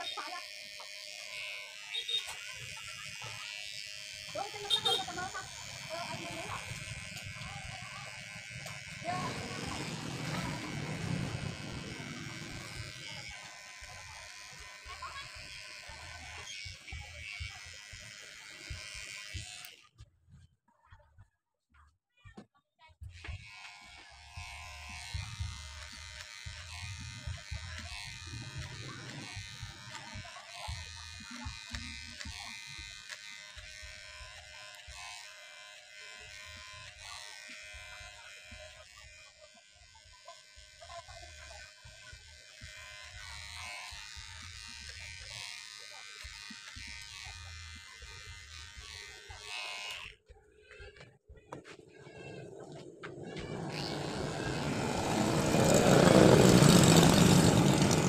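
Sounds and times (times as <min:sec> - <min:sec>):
electric hair clippers buzzing: 0:00.0 - 0:19.9, 0:23.1 - 0:58.0.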